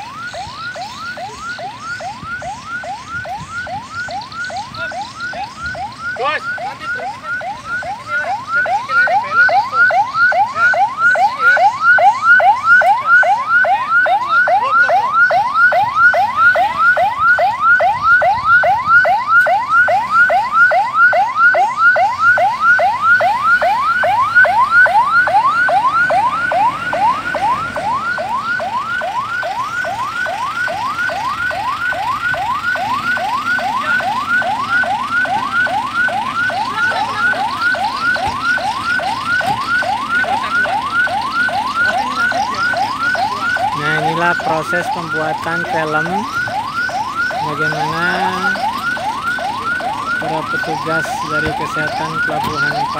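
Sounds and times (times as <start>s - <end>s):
ambulance siren yelping: 0.0s - 52.9s.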